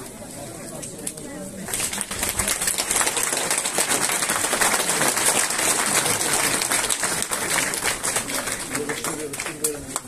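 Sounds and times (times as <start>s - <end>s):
crowd applauding: 1.7s - 10.0s.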